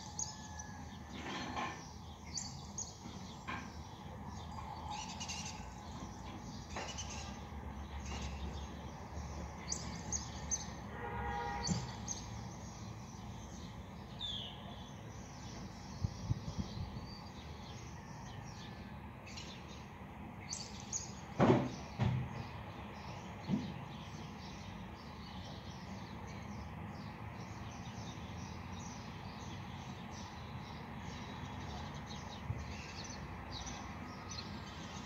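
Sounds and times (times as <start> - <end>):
small birds chirping: 1.7 - 10.8, 11.5 - 18.0, 19.3 - 35.0.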